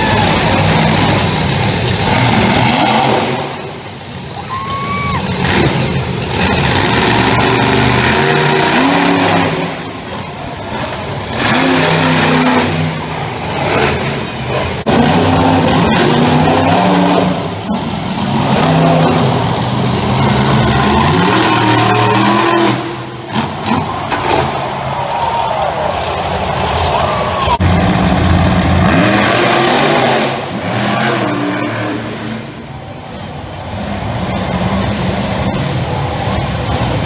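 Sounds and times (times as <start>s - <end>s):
monster truck engines revving: 0.0s - 37.0s.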